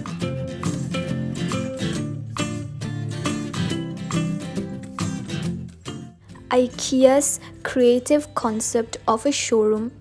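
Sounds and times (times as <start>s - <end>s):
plucked guitar music: 0.0s - 8.8s.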